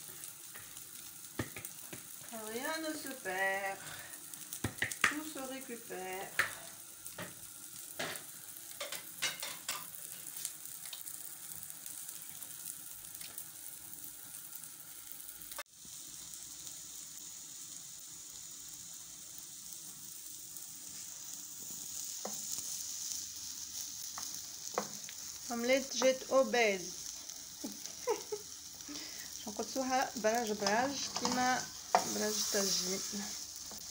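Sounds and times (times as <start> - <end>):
omelette sizzling in oil: 0.0 - 33.9.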